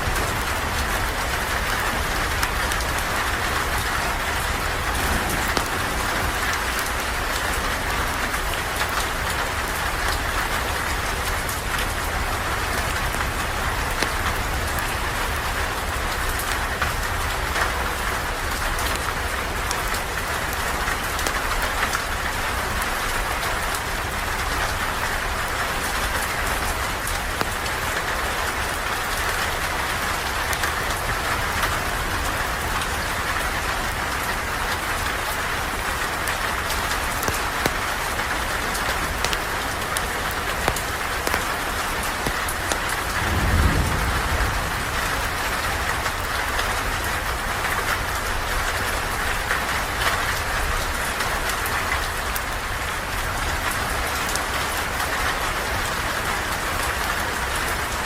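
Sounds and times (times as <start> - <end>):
rain falling on a surface: 0.0 - 58.0.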